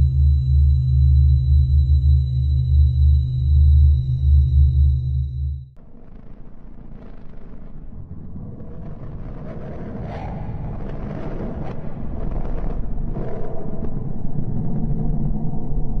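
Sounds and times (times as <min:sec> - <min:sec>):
deep noisy rumble: 0:00.0 - 0:16.0.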